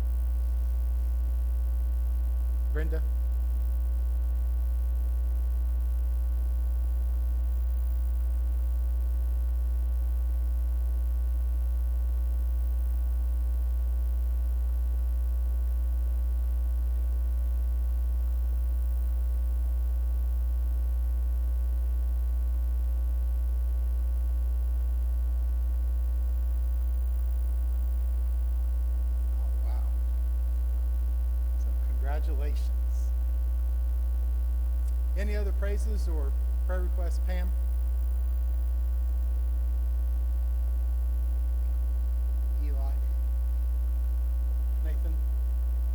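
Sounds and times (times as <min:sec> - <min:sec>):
electrical mains hum: 0:00.0 - 0:45.9.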